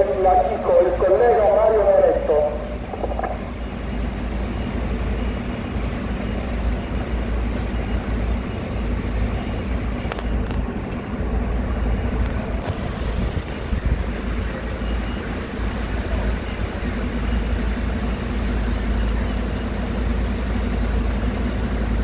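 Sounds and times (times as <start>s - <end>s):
fire engine idling: 0.0s - 22.0s.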